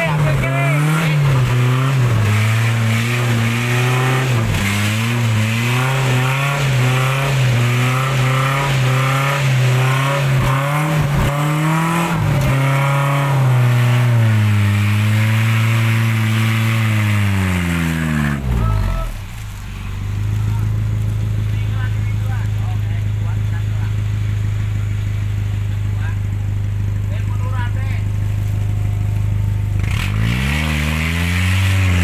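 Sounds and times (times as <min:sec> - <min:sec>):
engine revving: 0:00.0 - 0:32.0.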